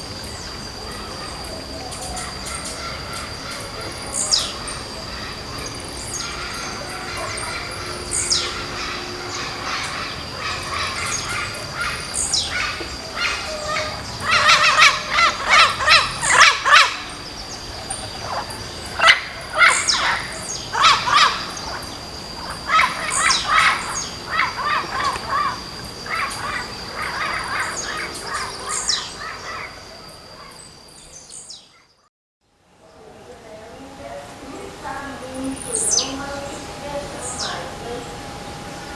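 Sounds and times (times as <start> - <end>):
thin steady high tone: 0.0 - 31.1, 32.8 - 38.9
birds chirping: 0.0 - 32.1, 32.8 - 38.9.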